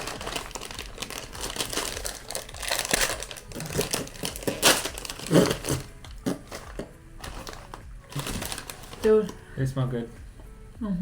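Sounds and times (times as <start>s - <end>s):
plastic candy wrapper crinkling: 0.0s - 9.4s.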